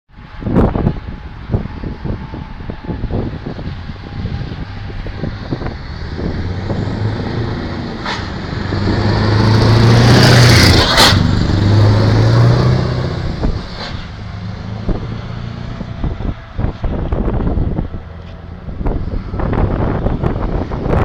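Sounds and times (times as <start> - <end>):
tyre and air noise: 0.2 - 21.0
truck driving past: 0.3 - 21.0.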